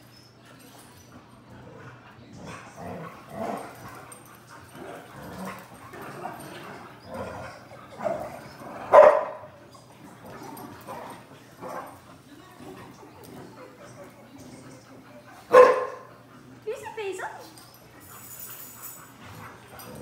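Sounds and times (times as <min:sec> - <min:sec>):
dogs barking and yipping: 0:02.4 - 0:20.0.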